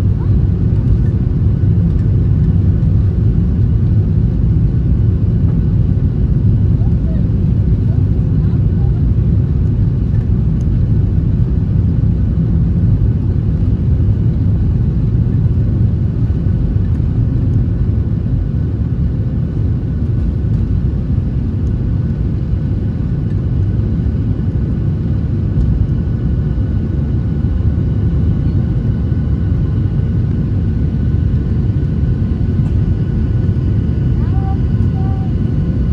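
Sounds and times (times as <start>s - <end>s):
aeroplane low rumble: 0.0s - 35.9s.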